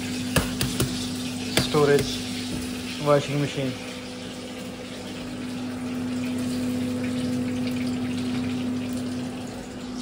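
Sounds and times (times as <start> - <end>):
water running: 0.0 - 10.0.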